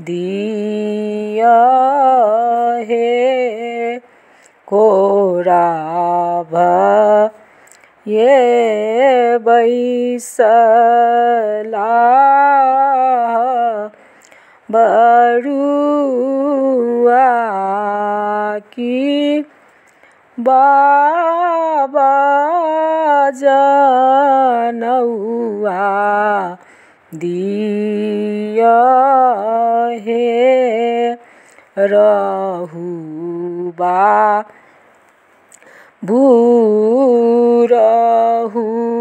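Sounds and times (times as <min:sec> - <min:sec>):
woman singing unaccompanied: 0:00.0 - 0:34.9, 0:35.5 - 0:39.0.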